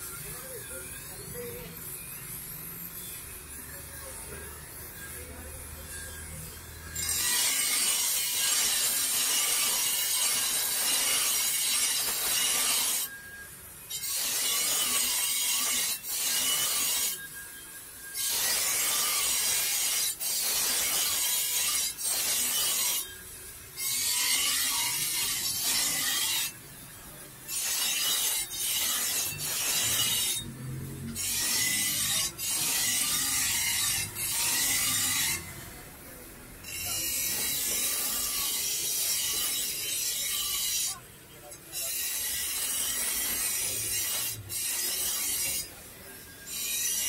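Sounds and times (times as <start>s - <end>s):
bench grinder grinding blade: 0.1s - 47.0s.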